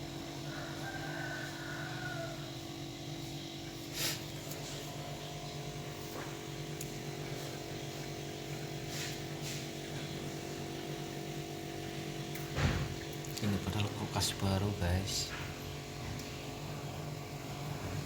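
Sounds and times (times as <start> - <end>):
refrigerator compressor humming: 0.0 - 18.0.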